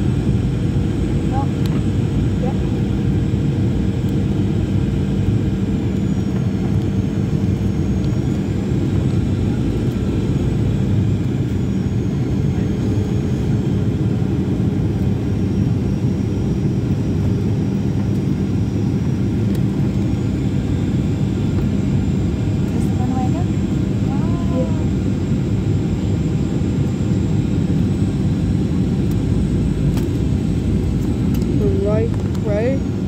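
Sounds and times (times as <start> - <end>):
aeroplane cabin engine drone: 0.0 - 33.0.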